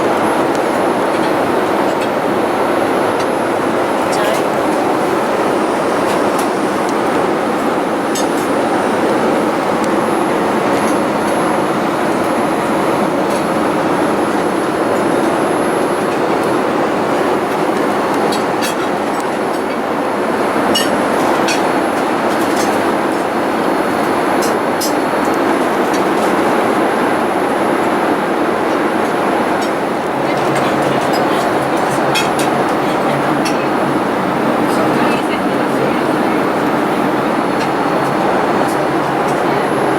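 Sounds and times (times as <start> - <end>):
airliner cabin engine noise: 0.0 - 39.9.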